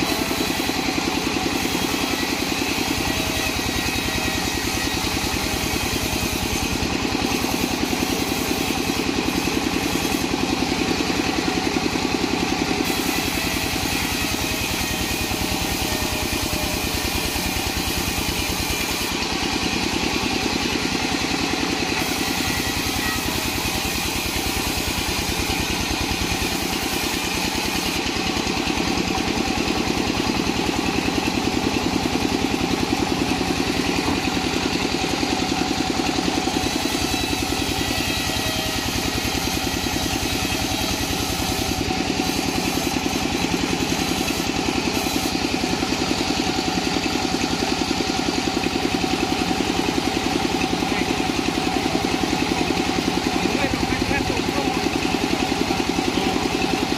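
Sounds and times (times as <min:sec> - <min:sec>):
engine-driven band saw cutting wood: 0:00.0 - 0:56.9.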